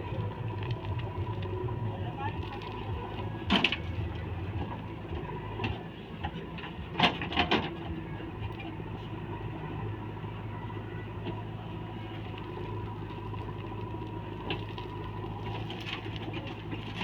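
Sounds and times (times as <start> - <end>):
heavy vehicle engine humming: 0.0 - 17.0.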